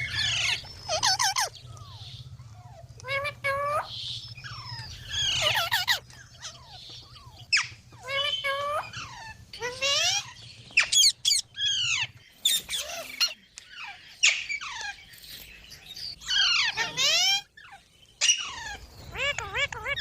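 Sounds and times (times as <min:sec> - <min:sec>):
parrot squawking: 0:00.0 - 0:15.1, 0:16.1 - 0:20.0.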